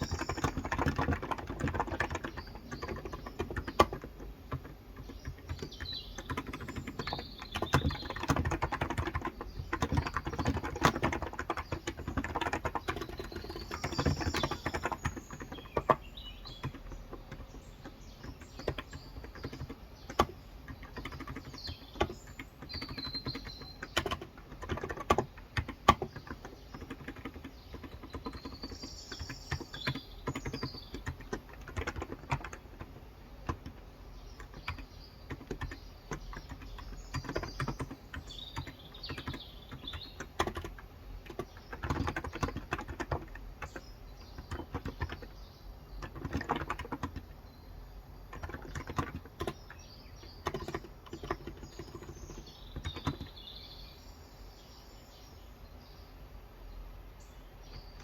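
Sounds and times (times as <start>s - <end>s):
keyboard typing: 0.0s - 47.4s, 48.2s - 53.4s
birds chirping: 0.0s - 58.0s.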